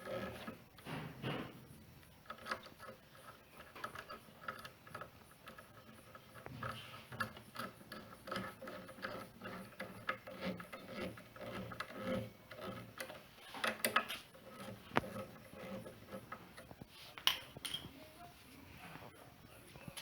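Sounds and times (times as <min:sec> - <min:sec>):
rubbing and scraping: 0:00.0 - 0:17.2.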